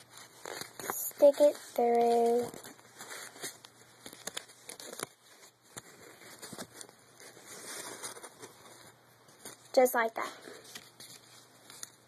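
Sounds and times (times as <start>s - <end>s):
cardstock and fabric rustling: 0.0s - 12.0s.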